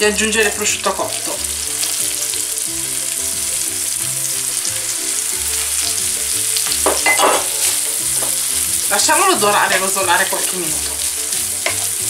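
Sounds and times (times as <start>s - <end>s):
ham sizzling in frying pan: 0.0s - 12.0s.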